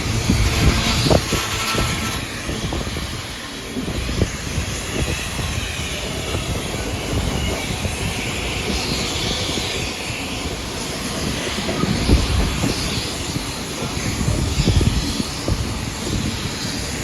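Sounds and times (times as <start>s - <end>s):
rushing air: 0.0s - 17.0s
train wheels rumbling on rail: 0.0s - 17.0s.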